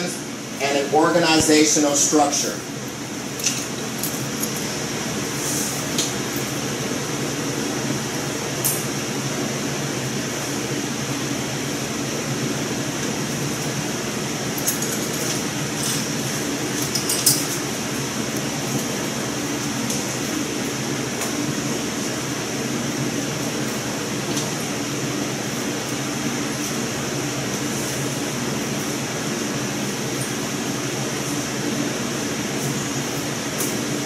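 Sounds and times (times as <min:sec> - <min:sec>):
ventilation fan hum and hiss: 0:00.0 - 0:34.0.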